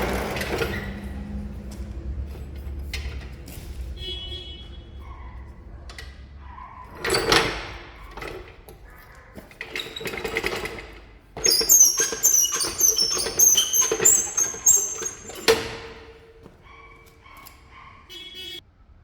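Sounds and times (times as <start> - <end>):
high metal squeaks: 0.0 - 18.6.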